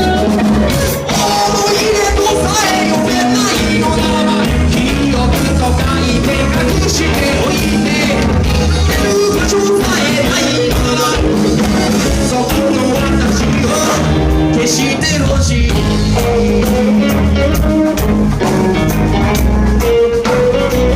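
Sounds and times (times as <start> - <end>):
live rock band playing: 0.0 - 20.9
person singing: 0.0 - 20.9.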